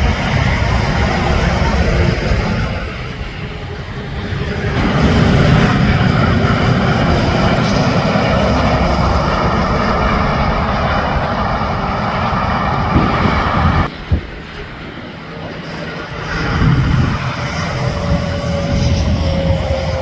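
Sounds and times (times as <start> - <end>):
heavy truck engine rumble: 0.0 - 20.0.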